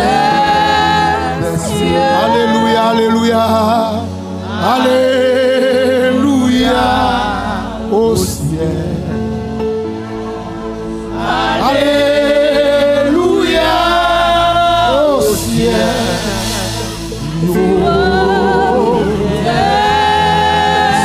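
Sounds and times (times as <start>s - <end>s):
gospel voices singing: 0.0s - 21.0s
sustained accompaniment chords: 0.0s - 21.0s.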